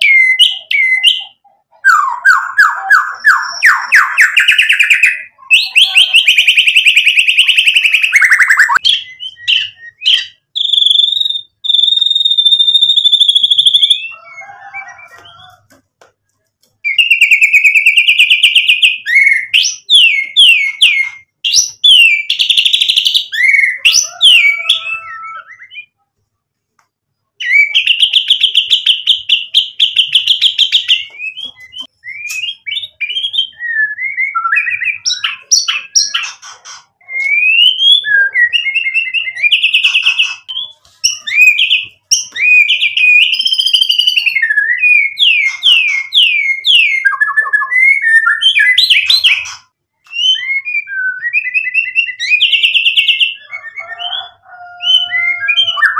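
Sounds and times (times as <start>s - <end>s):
bird singing whistled phrases: 0.0s - 15.6s, 16.9s - 26.0s, 27.4s - 36.3s, 37.0s - 55.9s.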